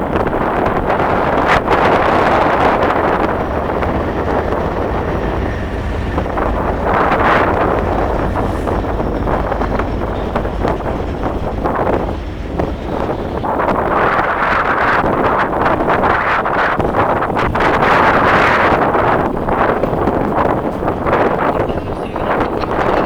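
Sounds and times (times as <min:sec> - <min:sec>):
freight train rumble: 0:00.0 - 0:23.0
wind buffeting microphone: 0:00.0 - 0:23.0.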